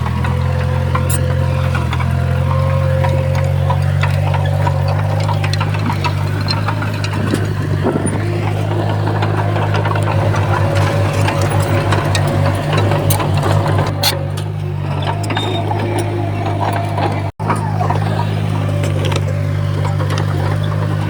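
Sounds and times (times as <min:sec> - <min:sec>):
bulldozer diesel engine running: 0:00.0 - 0:21.0
metallic clanks and rattles: 0:00.0 - 0:21.0.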